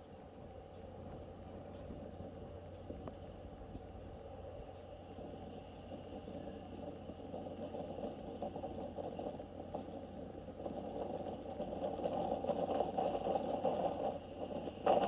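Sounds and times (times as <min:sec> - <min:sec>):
steam train rumbling: 0:00.0 - 0:15.0.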